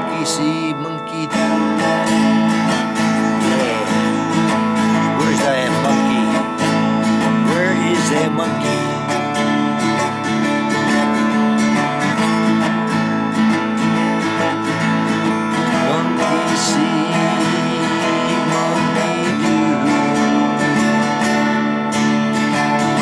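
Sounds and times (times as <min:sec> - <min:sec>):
acoustic guitar strummed: 0:00.0 - 0:23.0.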